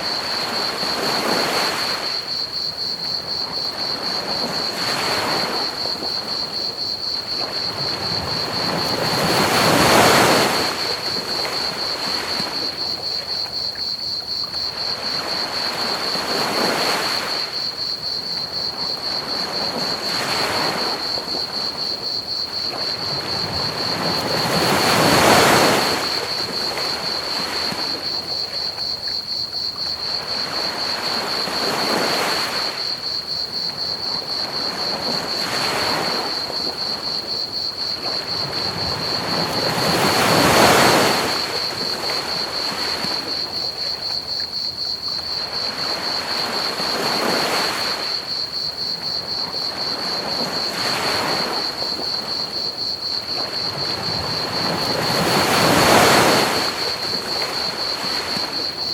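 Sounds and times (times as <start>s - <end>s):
ocean waves breaking on beach: 0.0s - 28.8s, 29.7s - 58.9s
cricket chorus: 0.0s - 58.9s.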